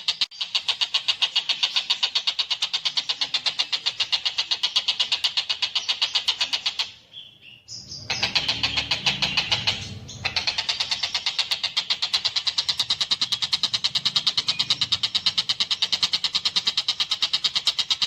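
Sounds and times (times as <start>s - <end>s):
bird chattering trill: 0.0s - 18.0s.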